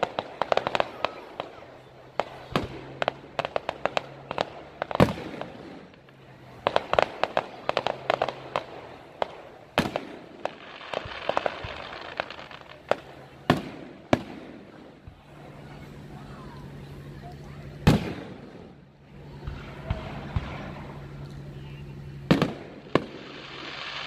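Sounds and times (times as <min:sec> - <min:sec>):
firework shells booming: 0:00.0 - 0:15.4, 0:17.8 - 0:20.9, 0:22.2 - 0:24.0
fireworks crackling: 0:00.0 - 0:24.0
hissing glittering crackle: 0:00.0 - 0:24.0.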